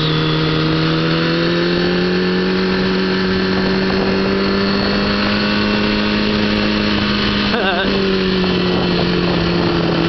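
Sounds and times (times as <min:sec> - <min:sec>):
motorcycle engine running: 0:00.0 - 0:10.0
wind noise on microphone: 0:00.0 - 0:10.0.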